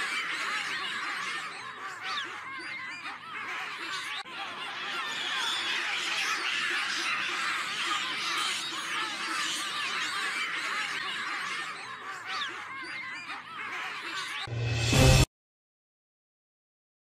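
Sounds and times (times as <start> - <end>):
chorus of animal cries: 0.0 - 14.5.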